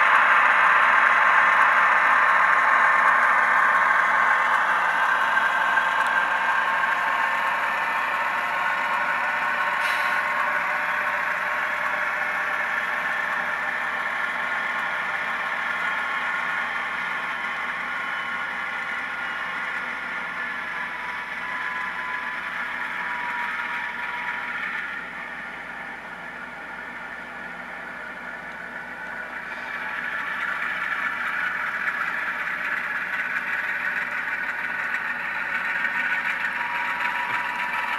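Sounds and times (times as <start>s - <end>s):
diesel engine sound through small speaker: 0.0s - 37.9s.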